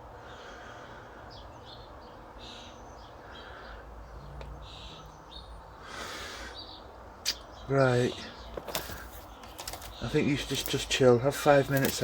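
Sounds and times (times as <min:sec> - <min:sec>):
bird chirping: 0:01.3 - 0:12.0.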